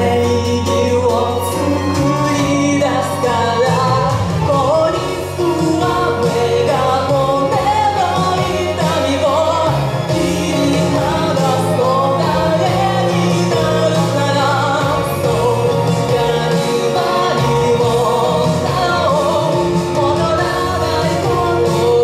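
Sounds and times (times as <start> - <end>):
person singing pop song: 0.0 - 22.0
recorded backing track: 0.0 - 22.0.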